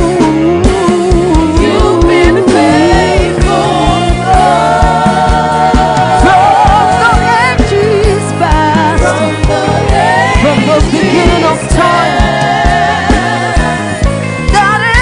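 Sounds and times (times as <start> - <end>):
band with drum beat and bass: 0.0 - 15.0
voices singing gospel: 0.5 - 15.0.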